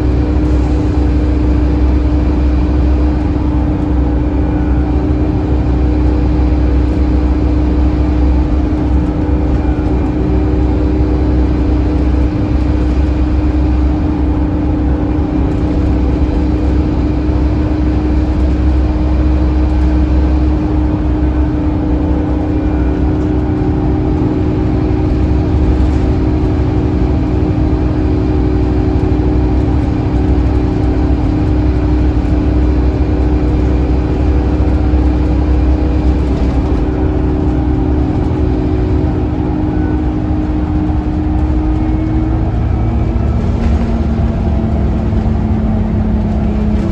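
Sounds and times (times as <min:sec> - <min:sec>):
bus diesel engine droning: 0:00.0 - 0:46.9.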